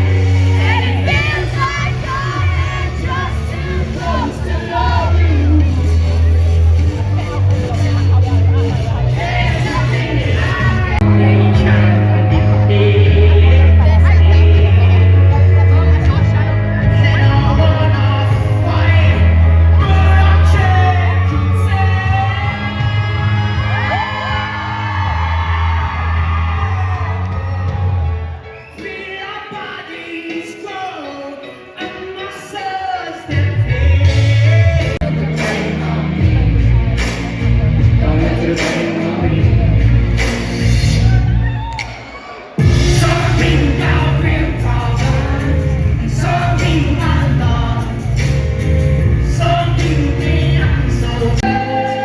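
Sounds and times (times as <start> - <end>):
person singing: 0.0 - 6.4, 7.3 - 27.1, 28.7 - 40.3, 42.6 - 52.0
steady bass notes: 0.0 - 28.4, 33.3 - 41.7, 42.6 - 52.0
live pop band: 0.0 - 52.0.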